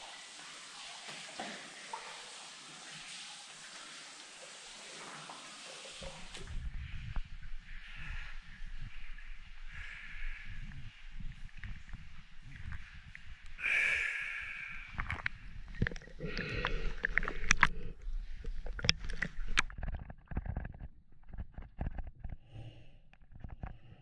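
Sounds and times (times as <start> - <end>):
water splashing and bubbles: 0.0 - 22.1.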